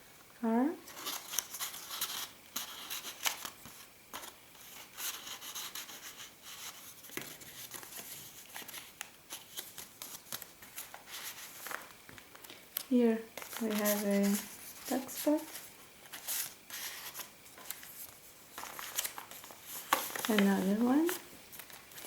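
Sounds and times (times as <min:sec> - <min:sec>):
paper rustling and crinkling: 0:00.8 - 0:22.0.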